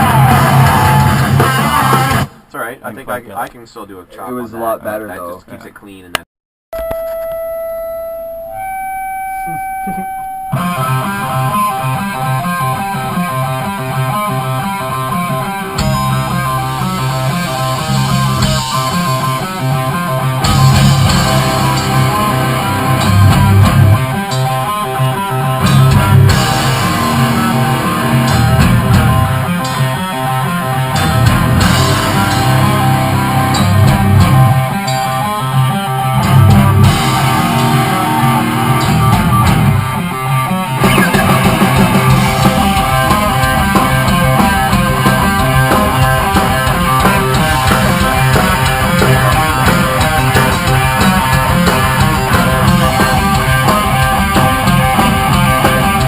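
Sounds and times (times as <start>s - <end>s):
bass guitar: 0.0s - 2.5s, 6.8s - 56.0s
drum kit: 0.0s - 2.5s, 9.5s - 56.0s
electric guitar: 0.0s - 2.5s, 6.8s - 56.0s.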